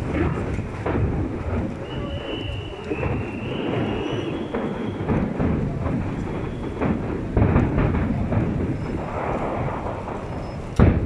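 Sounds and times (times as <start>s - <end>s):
fireworks shells bursting: 0.0s - 11.0s.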